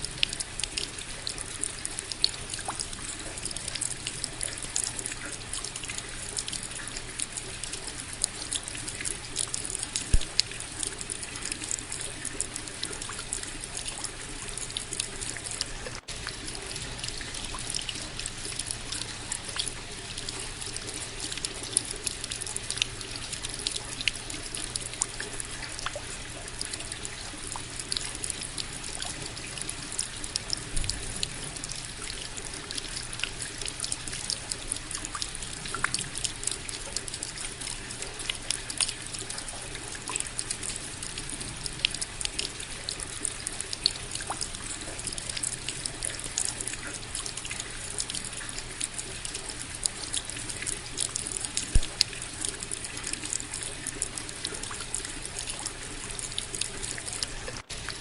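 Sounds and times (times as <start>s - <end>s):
raindrop ticks: 0.0s - 58.0s
steady rain: 0.0s - 58.0s.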